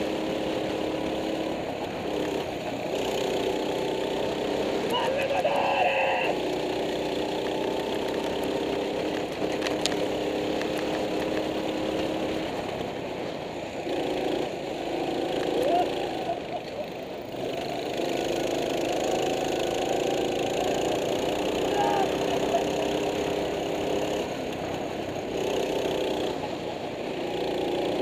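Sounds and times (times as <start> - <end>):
go-kart engine running: 0.0 - 28.0.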